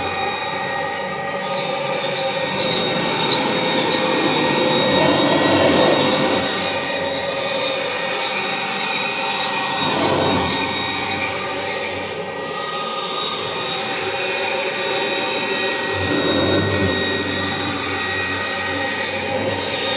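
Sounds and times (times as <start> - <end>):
vacuum cleaner whining: 0.0 - 19.9.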